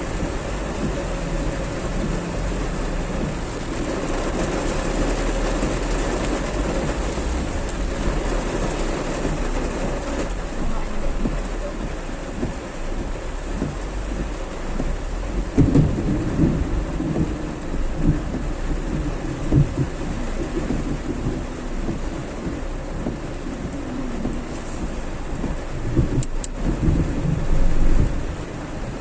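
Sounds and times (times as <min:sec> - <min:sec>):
heavy rain pouring: 0:00.0 - 0:29.0
low rumbles: 0:00.0 - 0:29.0.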